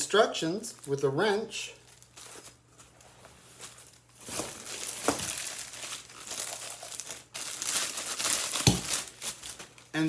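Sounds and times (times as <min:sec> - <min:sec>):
packaging crinkling: 0:01.8 - 0:10.0.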